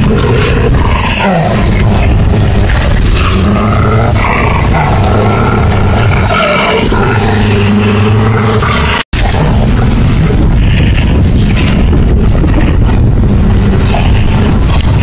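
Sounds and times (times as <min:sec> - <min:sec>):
wolves growling and snarling: 0:00.0 - 0:15.0.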